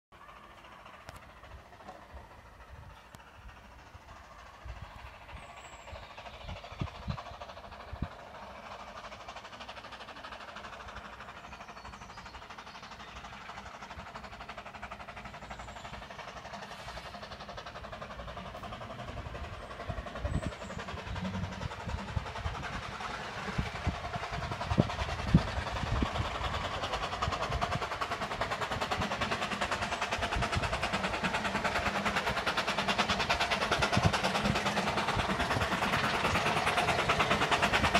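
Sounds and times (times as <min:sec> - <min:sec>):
train running noise: 0:00.1 - 0:37.9.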